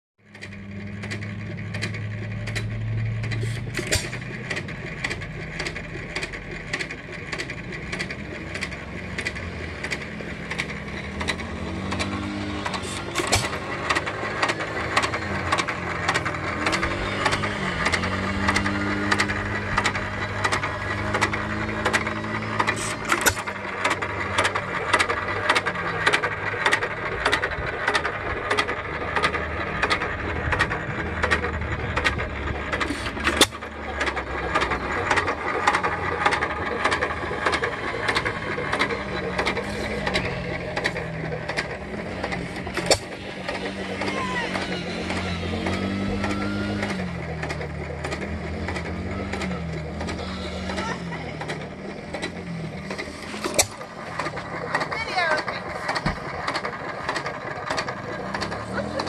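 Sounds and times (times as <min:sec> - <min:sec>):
gas engine running: 0:00.2 - 0:59.0
evenly spaced clicks: 0:00.3 - 0:59.0.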